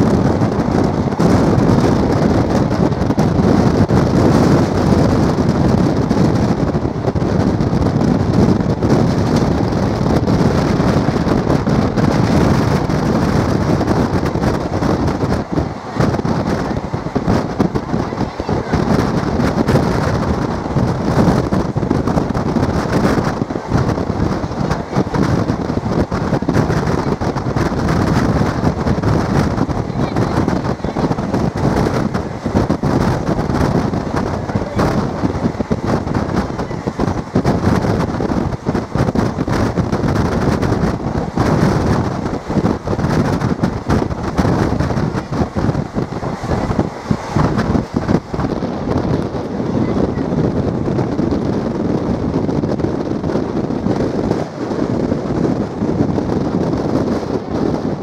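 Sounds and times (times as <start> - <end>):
train wheels rumbling on rails: 0.0 - 58.0
wind buffeting microphone: 0.0 - 58.0.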